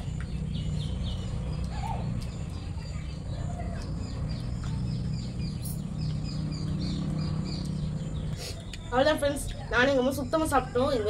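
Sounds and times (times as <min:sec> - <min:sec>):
bird chirping: 0:00.0 - 0:11.0
steady low hum: 0:00.0 - 0:11.0.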